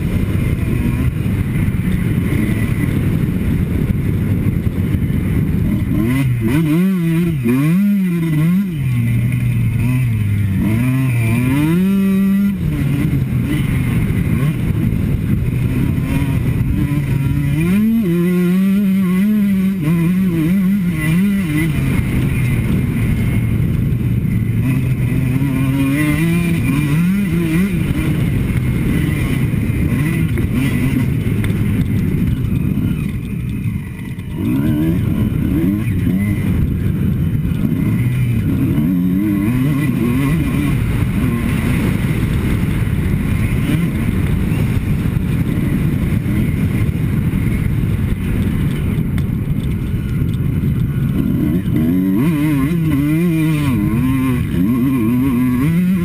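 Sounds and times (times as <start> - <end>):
motocross bike engine revving: 0.0 - 56.0
wind buffeting on camera: 0.0 - 56.0.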